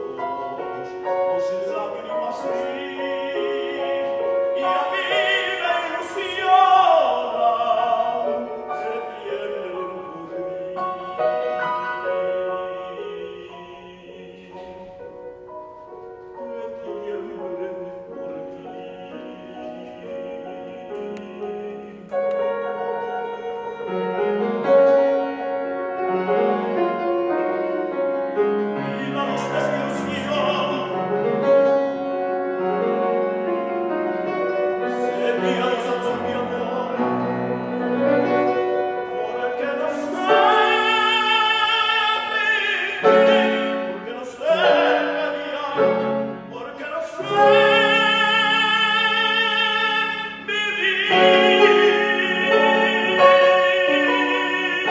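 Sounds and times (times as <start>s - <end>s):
man singing operatically: 0.0s - 15.3s, 16.2s - 22.3s, 28.8s - 31.7s, 34.8s - 54.9s
grand piano accompaniment: 0.0s - 54.9s.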